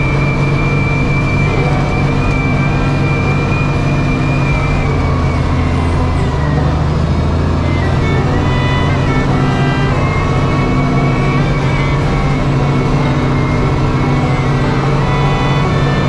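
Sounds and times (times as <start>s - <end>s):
loader diesel engine under load: 0.0s - 16.0s
thin high whine: 0.0s - 16.0s.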